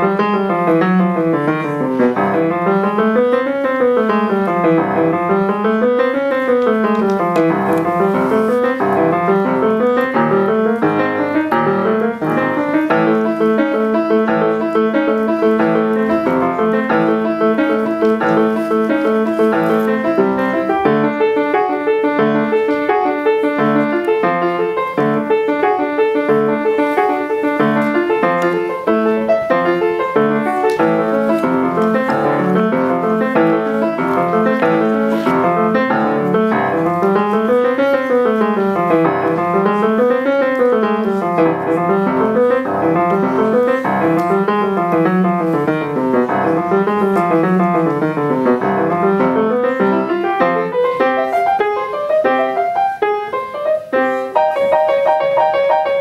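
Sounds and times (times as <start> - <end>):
solo grand piano: 0.0 - 56.0.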